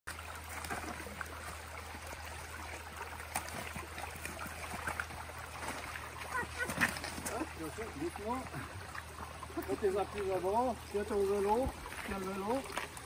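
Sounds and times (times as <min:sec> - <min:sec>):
stream trickling over rocks: 0:00.1 - 0:13.0.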